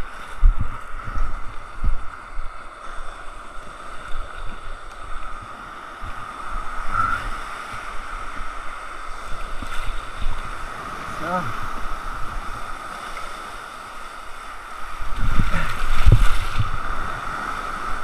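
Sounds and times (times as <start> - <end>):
breaking surf: 0.0 - 18.0
water washing around kayak: 0.0 - 18.0
wind rumbling on microphone: 0.0 - 18.0.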